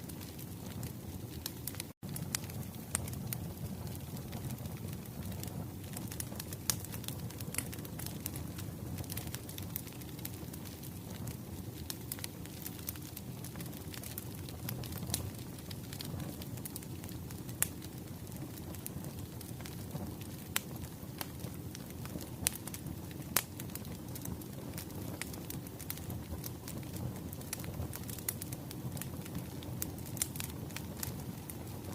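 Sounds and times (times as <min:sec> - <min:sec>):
firewood crackling and popping: 0:00.0 - 0:31.9
low rumble of flames: 0:00.0 - 0:31.9.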